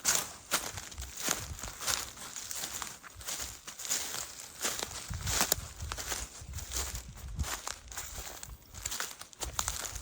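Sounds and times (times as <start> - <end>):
dry leaves crackling underfoot: 0.0 - 10.0.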